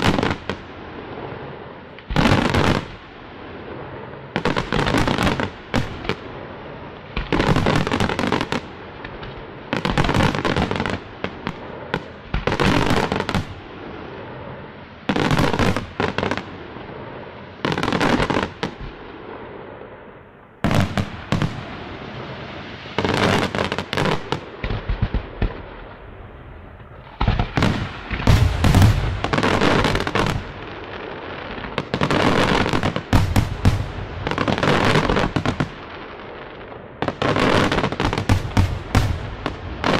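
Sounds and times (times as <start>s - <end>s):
fireworks bangs: 0.0s - 39.9s
noisy fireworks tail: 0.0s - 39.9s.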